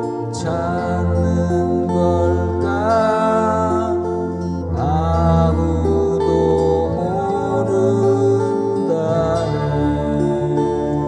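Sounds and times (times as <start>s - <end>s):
acoustic guitar strumming: 0.0s - 11.0s
man singing folk song: 0.0s - 11.0s.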